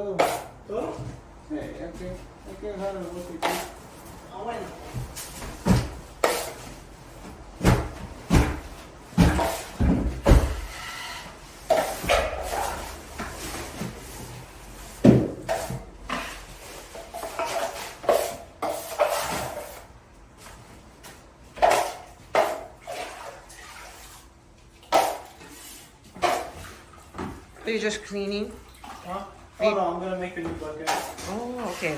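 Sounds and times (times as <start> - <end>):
bucket and tools clanking: 0.0 - 19.9, 21.5 - 31.9.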